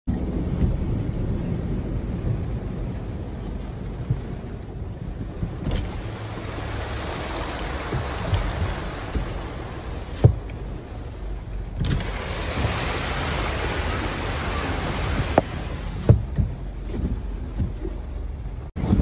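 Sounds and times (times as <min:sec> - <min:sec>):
heavy rain: 0:00.1 - 0:17.4
rushing flood water: 0:00.1 - 0:19.0.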